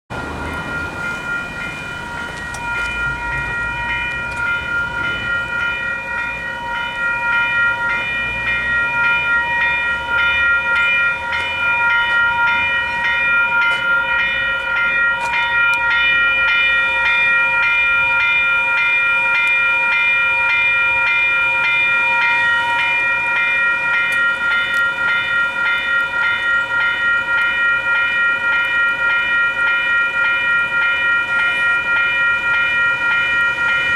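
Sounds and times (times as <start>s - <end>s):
level crossing bells ringing: 0.1s - 33.9s.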